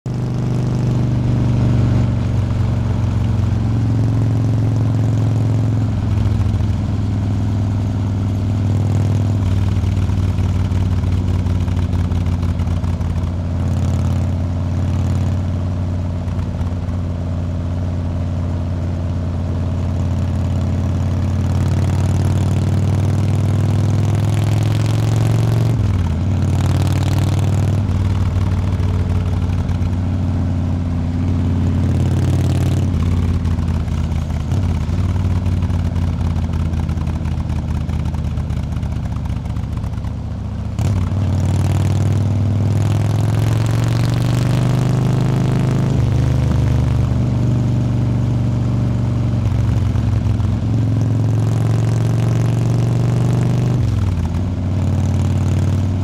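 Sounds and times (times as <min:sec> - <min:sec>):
motorcycle engine running: 0:00.1 - 0:56.0.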